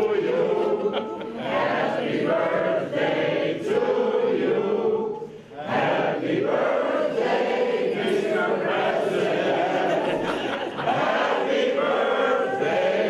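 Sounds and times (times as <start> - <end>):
group of people singing: 0.0 - 13.0.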